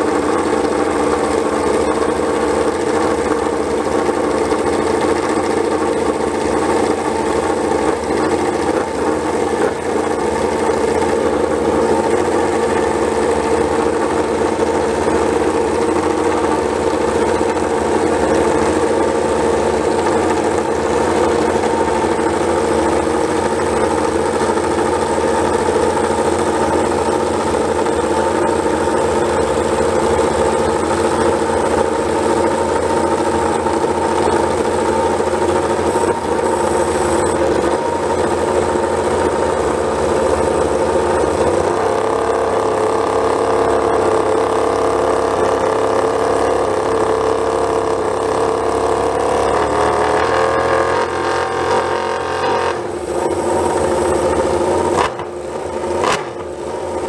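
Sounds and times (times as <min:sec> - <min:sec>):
motorcycle engine idling: 0:00.0 - 0:49.7, 0:52.7 - 0:57.0.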